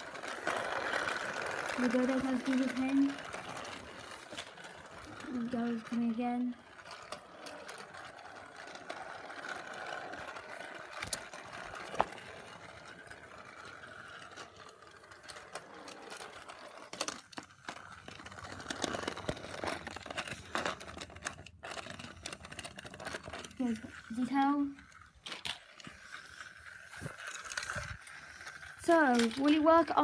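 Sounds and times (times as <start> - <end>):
toy train motor whirring: 0.0 - 30.0.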